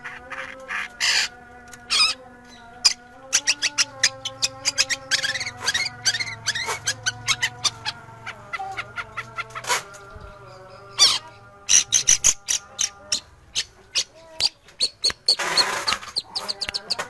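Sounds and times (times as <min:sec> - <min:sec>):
bird singing harsh chattering calls: 0:00.0 - 0:17.0.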